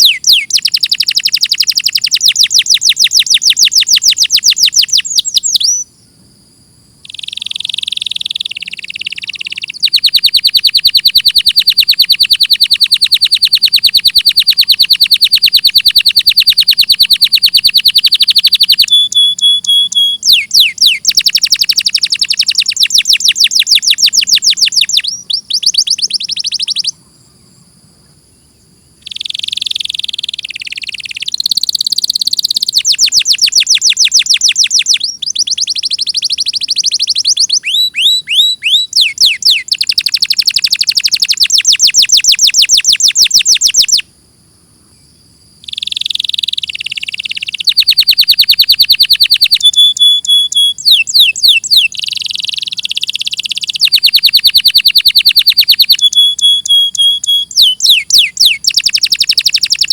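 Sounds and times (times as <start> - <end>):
canary singing trills: 0.0 - 6.0, 7.0 - 44.1, 45.6 - 59.9.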